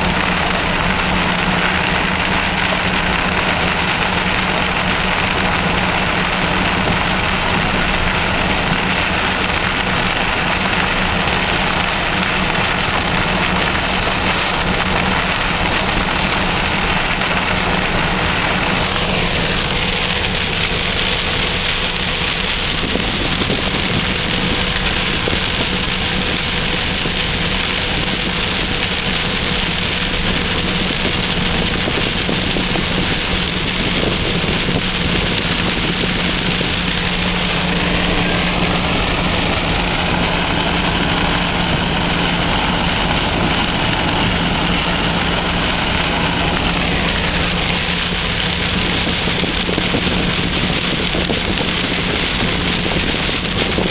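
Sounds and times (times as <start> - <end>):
car engine drone: 0.0 - 53.9
rain on a car: 0.0 - 53.9
tyres on road: 0.0 - 53.9.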